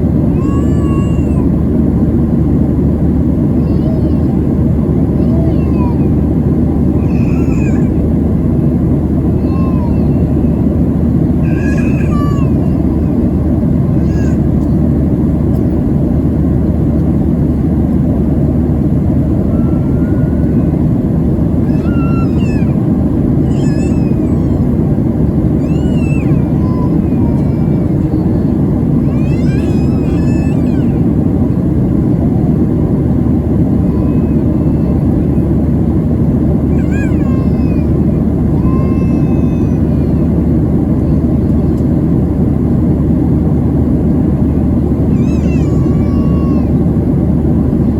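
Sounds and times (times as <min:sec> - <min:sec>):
airplane cabin roar: 0:00.0 - 0:47.9.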